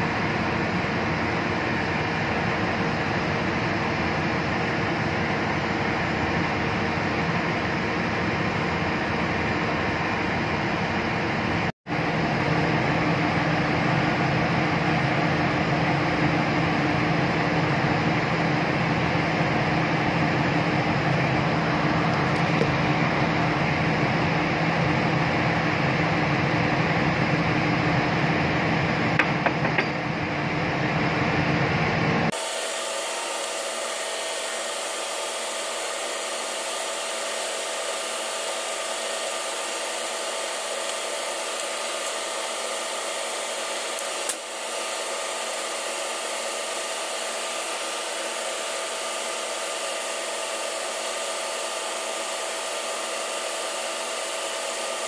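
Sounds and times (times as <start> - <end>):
machine whir: 0.0 - 55.0.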